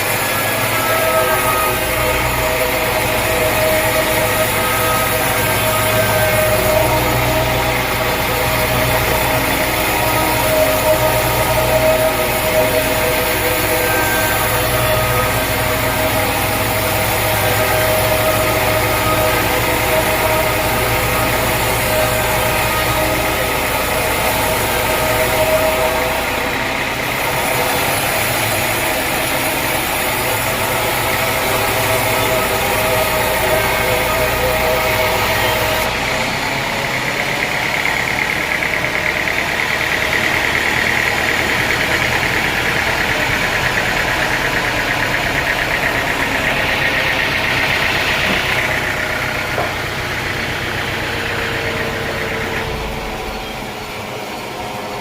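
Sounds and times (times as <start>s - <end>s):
high machine whine: 0.0s - 55.0s
sawmill machinery droning: 0.0s - 55.0s.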